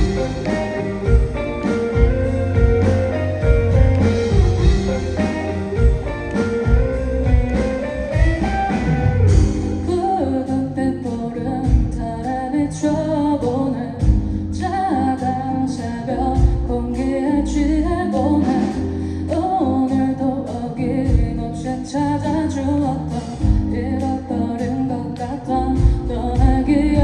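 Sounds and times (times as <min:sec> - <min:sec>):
drums: 0:00.0 - 0:27.0
electric guitar: 0:00.0 - 0:27.0.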